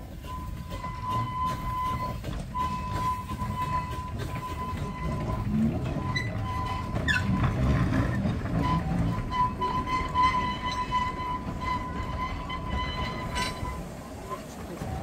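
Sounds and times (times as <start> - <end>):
steam train rumbling: 0.0 - 15.0
rising squeak: 0.3 - 13.9.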